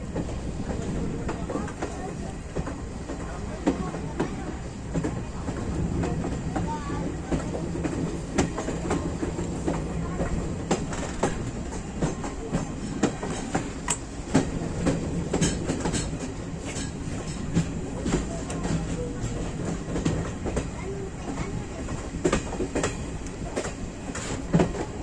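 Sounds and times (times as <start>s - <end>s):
train rumbling on rails: 0.0s - 25.0s
wheels clicking on track: 0.0s - 25.0s.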